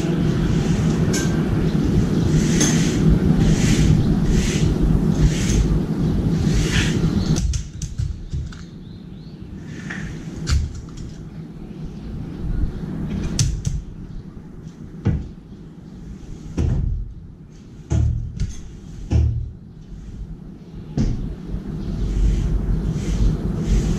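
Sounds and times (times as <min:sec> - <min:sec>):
low outdoor rumble: 0:00.0 - 0:23.9.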